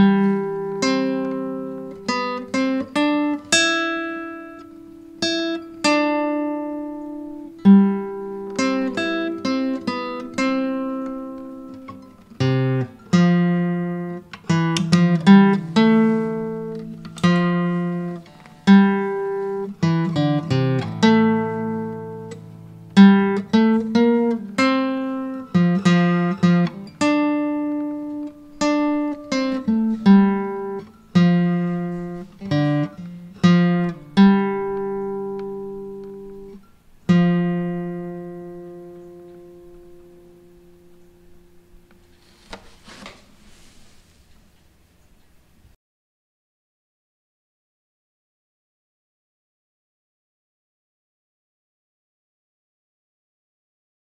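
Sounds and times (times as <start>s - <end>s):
acoustic guitar plucking: 0.0s - 43.8s.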